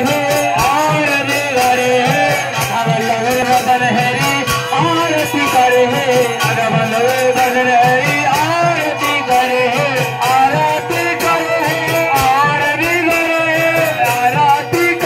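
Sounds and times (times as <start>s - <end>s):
hand drum: 0.0s - 15.0s
jingling percussion: 0.0s - 15.0s
man singing through microphone: 0.0s - 15.0s.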